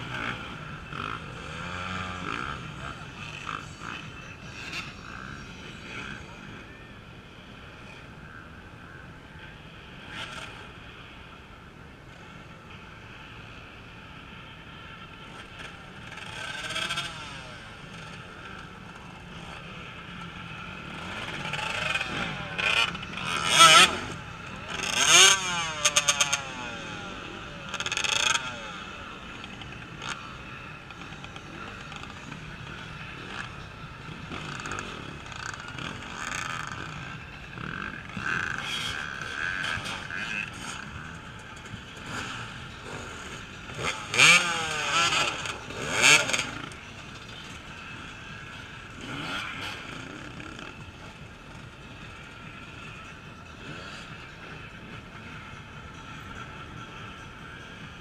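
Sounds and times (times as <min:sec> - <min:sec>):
faint motorcycle engines: 0:00.0 - 0:58.0
off-road motorcycles revving: 0:00.0 - 0:58.0.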